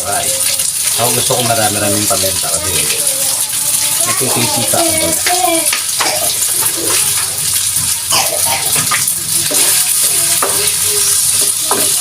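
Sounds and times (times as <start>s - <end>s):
pasta sizzling in a pan: 0.0s - 12.0s.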